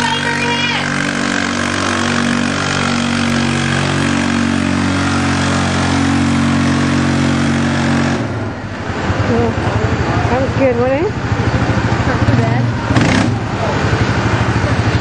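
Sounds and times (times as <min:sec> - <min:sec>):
engine at high revs: 0:00.0 - 0:15.0.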